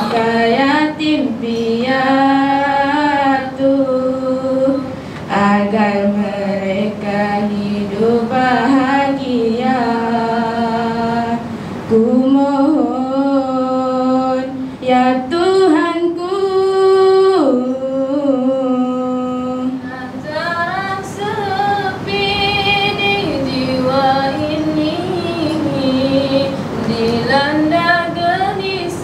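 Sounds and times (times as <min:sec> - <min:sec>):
girl singing into a microphone: 0:00.0 - 0:29.0.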